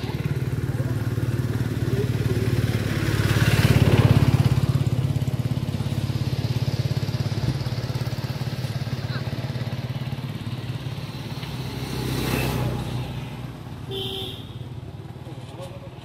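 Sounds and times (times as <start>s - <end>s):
small engine running: 0.0s - 12.9s.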